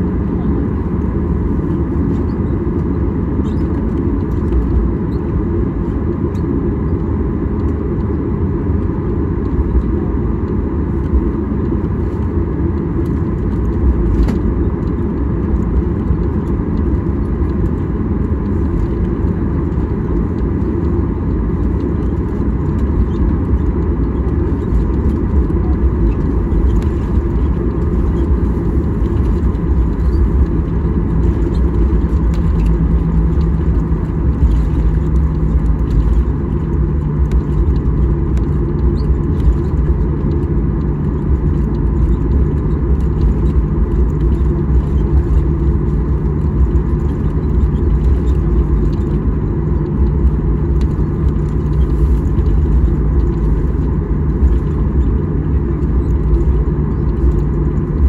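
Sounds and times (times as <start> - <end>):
aircraft engine and wheel rumble: 0.0 - 58.0.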